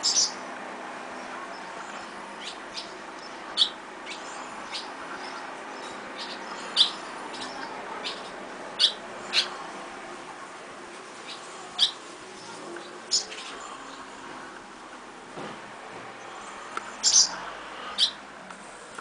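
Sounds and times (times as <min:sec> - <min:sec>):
swallows chirping: 0:00.0 - 0:10.5, 0:11.2 - 0:14.6, 0:16.2 - 0:18.2.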